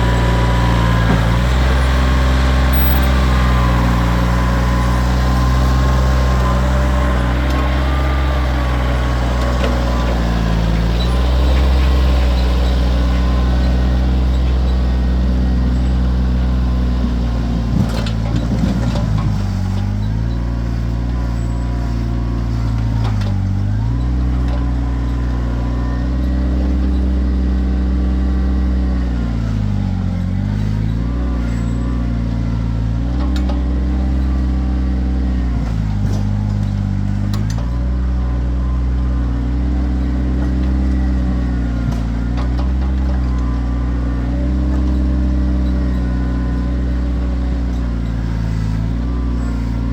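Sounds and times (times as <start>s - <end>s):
tractor diesel engine bogging: 0.0s - 49.9s.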